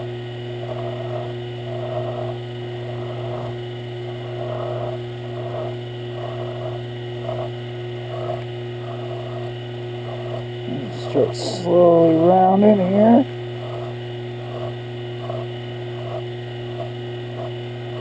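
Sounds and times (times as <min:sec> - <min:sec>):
lathe motor hum: 0:00.0 - 0:18.0.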